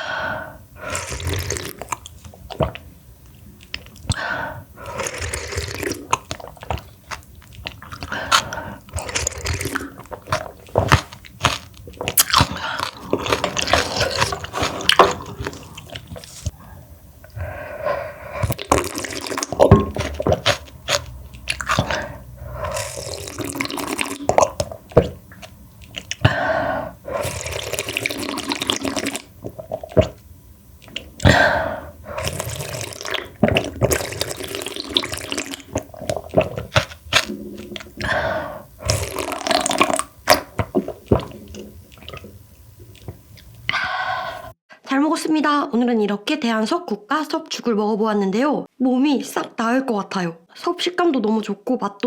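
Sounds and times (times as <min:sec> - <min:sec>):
wet slurping: 0:00.8 - 0:16.6, 0:17.3 - 0:30.2, 0:30.8 - 0:44.6.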